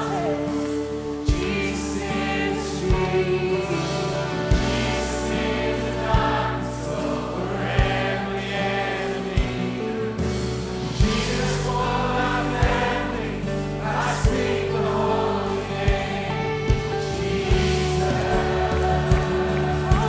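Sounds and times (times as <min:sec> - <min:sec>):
voices singing together: 0:00.0 - 0:20.0
worship band playing: 0:00.0 - 0:20.0.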